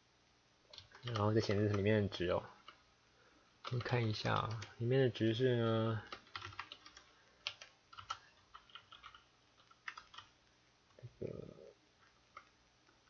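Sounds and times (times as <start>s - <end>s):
faint keyboard typing: 0.7s - 2.9s, 3.6s - 13.0s.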